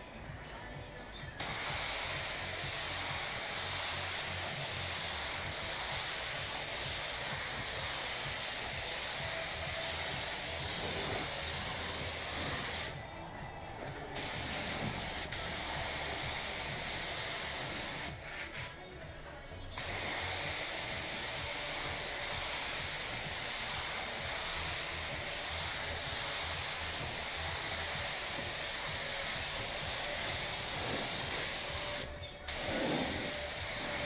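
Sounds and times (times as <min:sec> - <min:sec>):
paint spray gun hissing: 0:01.4 - 0:18.7, 0:19.7 - 0:34.0.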